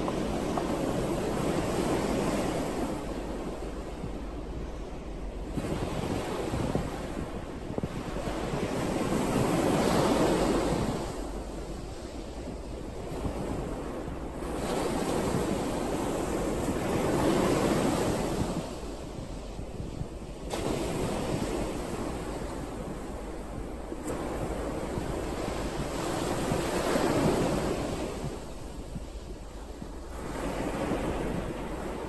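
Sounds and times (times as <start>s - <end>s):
sea waves breaking on shore: 0.0s - 32.0s.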